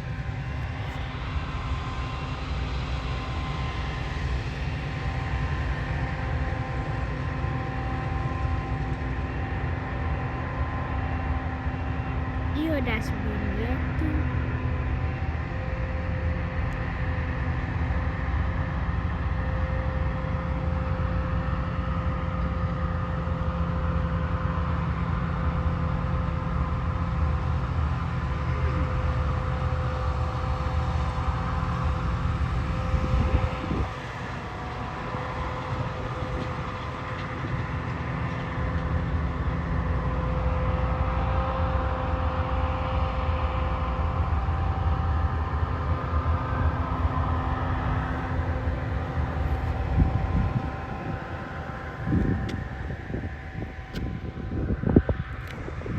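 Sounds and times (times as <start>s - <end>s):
combine harvester drone: 0.0s - 55.9s
steady machine whine: 0.0s - 55.9s.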